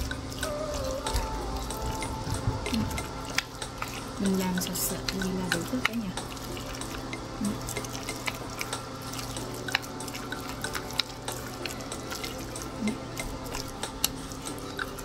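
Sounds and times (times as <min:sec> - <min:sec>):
chopsticks stirring thick batter: 0:00.0 - 0:15.0
low hum: 0:00.0 - 0:15.0.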